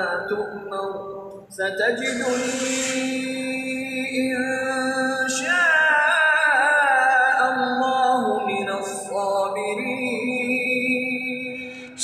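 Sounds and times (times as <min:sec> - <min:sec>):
chanted recitation over loudspeaker: 0:00.0 - 0:12.0.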